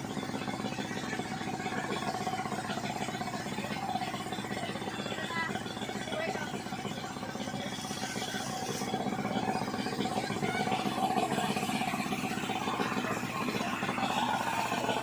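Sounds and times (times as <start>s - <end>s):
pump engine running: 0.0s - 15.0s.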